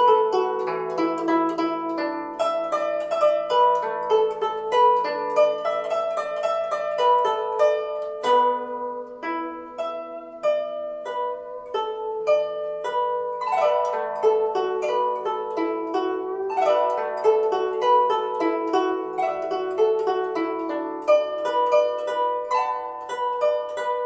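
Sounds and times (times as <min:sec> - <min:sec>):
guzheng plucked notes: 0:00.0 - 0:24.0.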